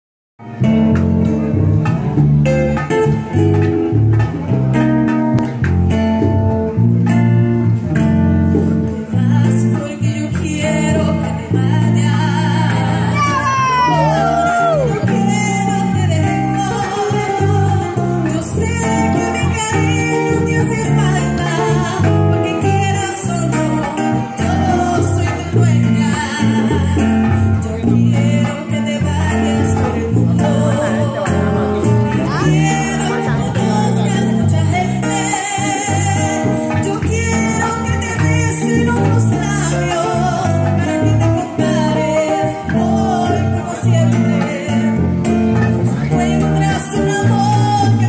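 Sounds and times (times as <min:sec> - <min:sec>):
live band playing latin music: 0:00.4 - 0:48.0
woman singing: 0:08.5 - 0:48.0.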